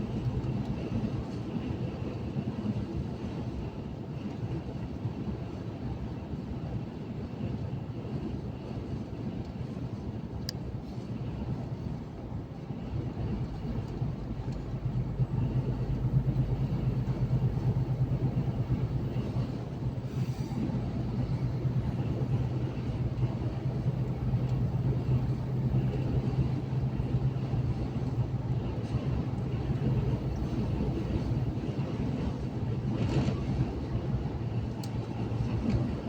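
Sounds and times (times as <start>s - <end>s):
truck engine and tyre noise: 0.0s - 36.0s.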